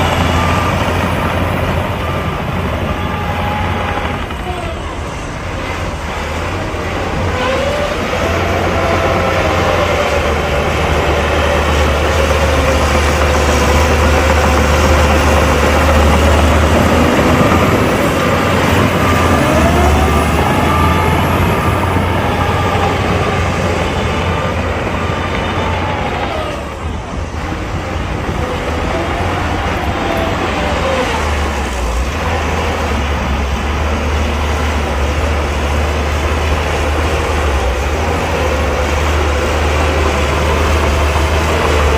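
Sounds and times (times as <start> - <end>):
heavy diesel engine rumbling: 0.0 - 41.9.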